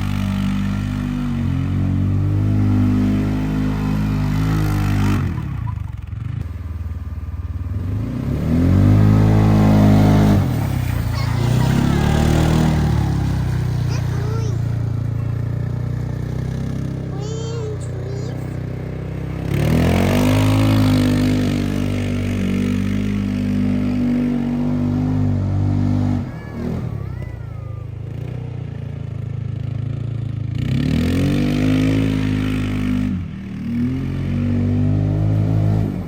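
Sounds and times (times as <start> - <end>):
buggy engine accelerating: 0.0 - 36.0.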